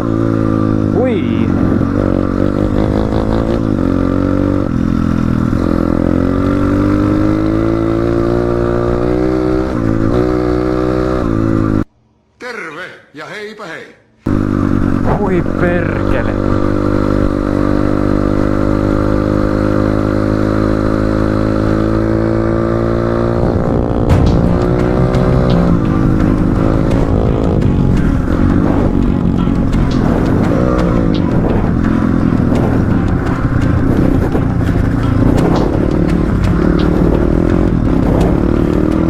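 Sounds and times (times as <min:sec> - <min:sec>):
motorcycle engine running: 0:00.0 - 0:11.8, 0:14.3 - 0:39.0.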